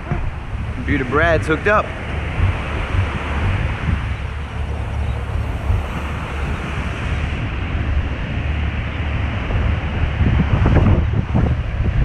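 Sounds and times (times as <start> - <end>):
wind buffeting microphone: 0.0 - 12.0
waves breaking on beach: 0.5 - 10.7.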